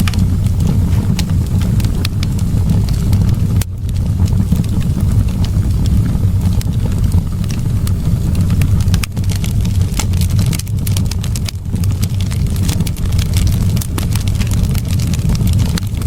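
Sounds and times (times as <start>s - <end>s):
fire crackling and popping: 0.0s - 16.0s
fire roaring: 0.0s - 16.0s.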